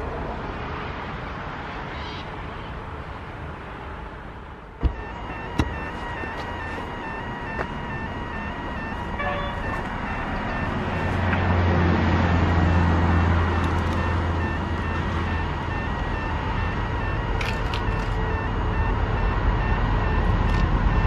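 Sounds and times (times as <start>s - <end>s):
train engine drone: 0.0s - 21.0s.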